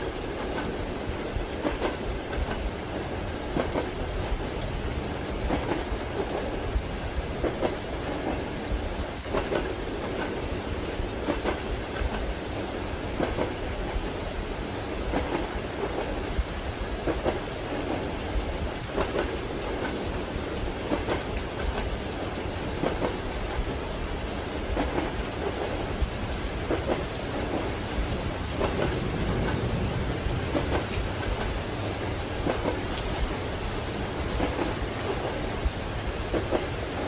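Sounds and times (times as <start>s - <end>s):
train wheels clacking on rail joints: 0.0s - 4.6s, 5.4s - 6.6s, 7.2s - 14.1s, 15.0s - 37.0s
steady rain: 0.0s - 37.0s.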